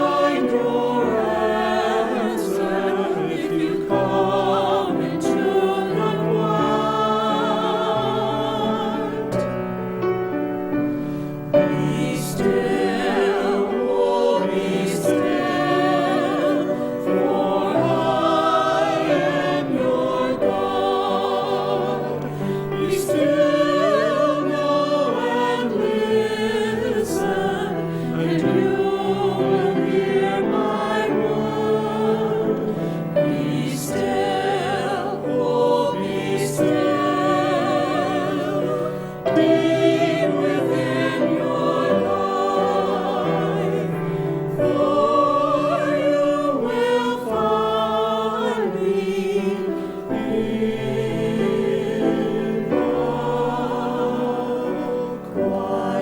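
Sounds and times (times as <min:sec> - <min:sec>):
church choir singing: 0:00.0 - 0:56.0.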